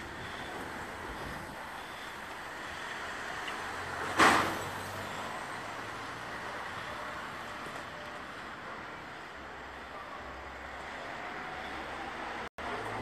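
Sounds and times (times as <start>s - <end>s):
street traffic hiss: 0.0s - 13.0s.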